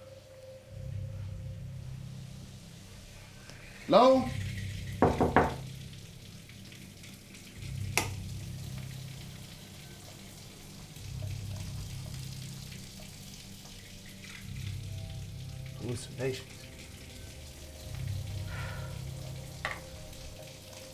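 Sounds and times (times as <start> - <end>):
shower water running: 0.0 - 20.9.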